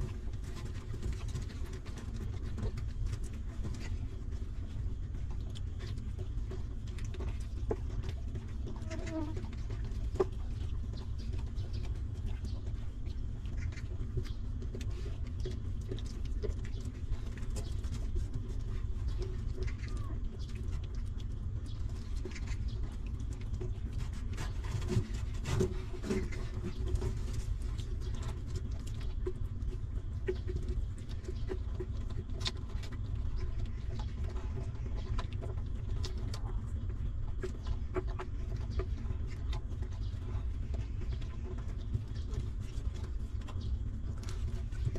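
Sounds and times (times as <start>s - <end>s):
puppies suckling wet clicks: 0.0s - 44.9s
steady low rumble: 0.0s - 44.9s.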